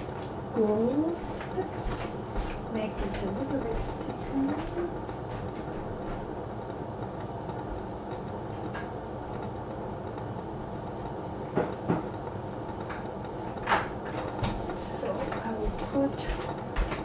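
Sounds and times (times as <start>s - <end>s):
gas burner rumbling: 0.0s - 17.0s.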